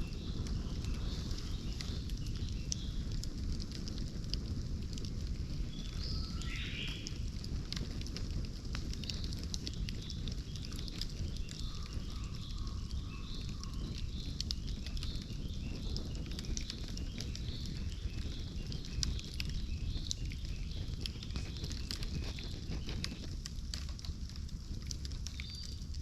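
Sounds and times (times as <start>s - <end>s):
small birds chirping: 0.0s - 4.1s, 4.9s - 24.2s, 24.8s - 26.0s
bonfire crackling: 0.0s - 26.0s.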